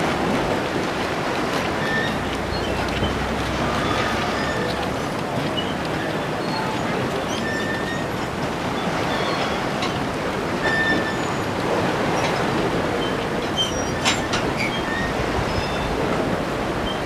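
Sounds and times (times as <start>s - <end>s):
sea waves washing: 0.0s - 17.0s.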